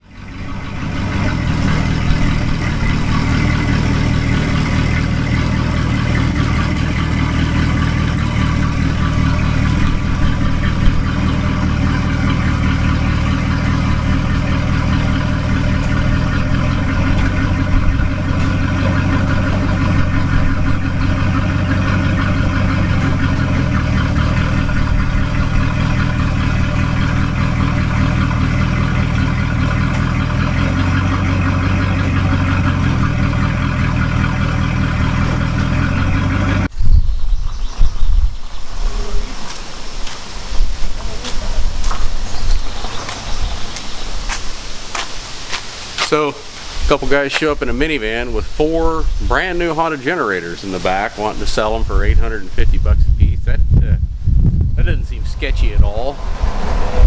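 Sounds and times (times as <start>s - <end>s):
pickup truck engine idling: 0.0s - 36.8s, 37.6s - 57.0s.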